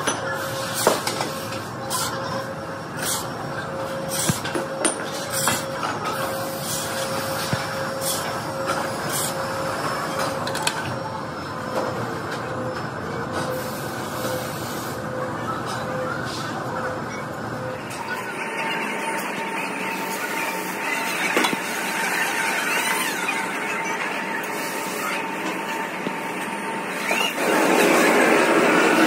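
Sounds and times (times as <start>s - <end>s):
factory machinery hum: 0.0s - 29.0s.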